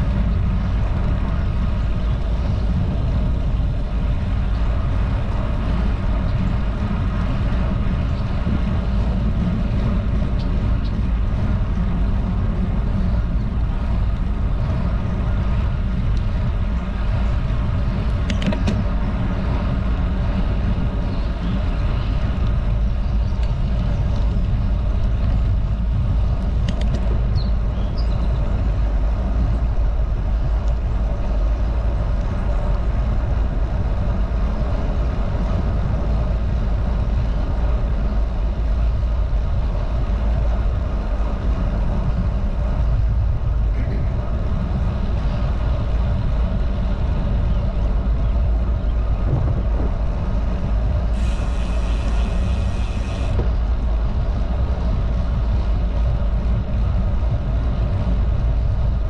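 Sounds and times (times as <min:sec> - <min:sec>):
bicycle tyre noise: 0:00.0 - 0:59.0
wind buffeting microphone: 0:00.0 - 0:59.0.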